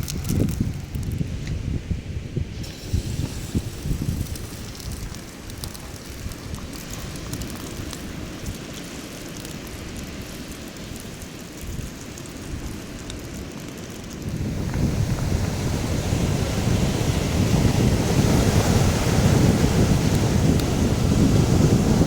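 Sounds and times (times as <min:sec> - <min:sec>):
rain pattering: 0:00.0 - 0:01.6, 0:02.6 - 0:22.0
wind rumbling on microphone: 0:00.0 - 0:22.0.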